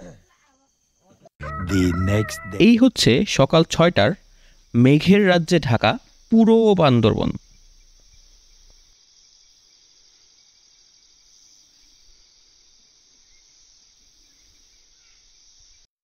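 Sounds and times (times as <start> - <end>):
insects chirring: 0.0 - 15.9.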